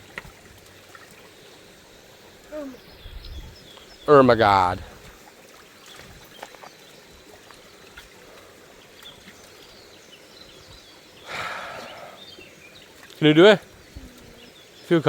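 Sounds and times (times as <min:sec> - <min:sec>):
brook trickling: 0:00.0 - 0:15.0.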